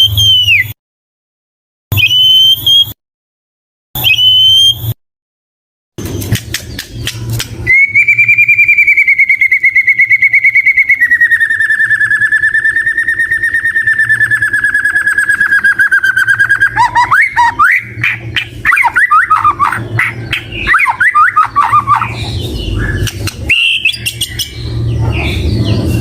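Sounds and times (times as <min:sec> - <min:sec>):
bird singing a rapid trill: 0:00.0 - 0:00.8, 0:01.9 - 0:03.0, 0:04.0 - 0:05.0, 0:06.2 - 0:26.0.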